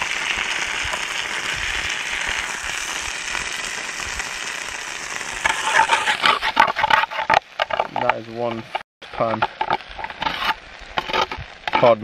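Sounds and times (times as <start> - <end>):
burgers sizzling in a frying pan: 0.0 - 12.0.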